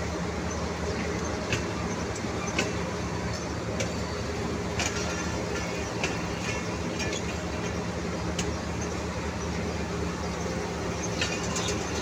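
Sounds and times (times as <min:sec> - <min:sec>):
train rumbling on track: 0:00.0 - 0:12.0
wheels clicking over rail joints: 0:00.5 - 0:12.0.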